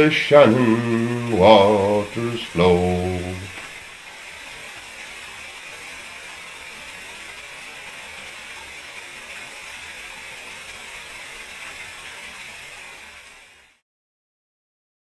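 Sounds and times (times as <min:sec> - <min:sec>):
waterfall splashing on rock: 0:00.0 - 0:13.8.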